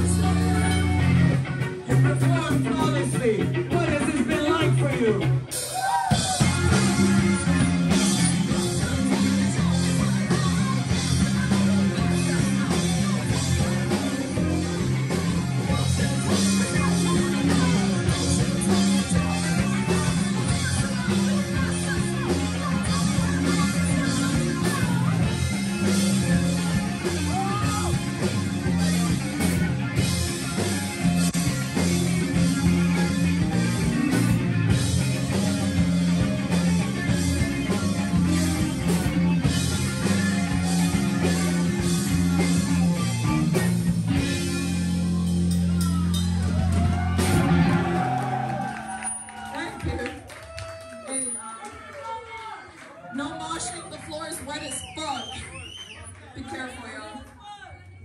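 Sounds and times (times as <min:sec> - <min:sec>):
bass line: 0:00.0 - 0:50.3
electric guitar: 0:00.0 - 0:51.1
rock band playing: 0:00.0 - 0:51.5, 0:53.1 - 0:55.9.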